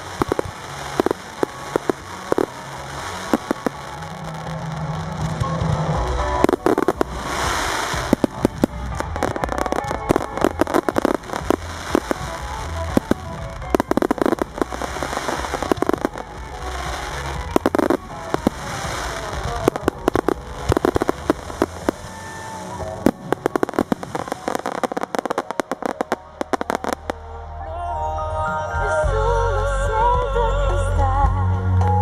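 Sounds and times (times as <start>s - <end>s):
fireworks crackling and banging: 0.0s - 27.3s.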